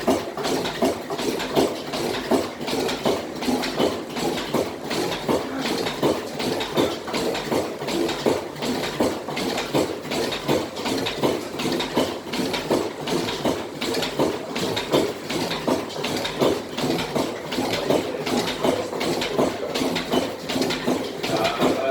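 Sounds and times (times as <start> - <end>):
stationary oil engine running: 0.0 - 21.9.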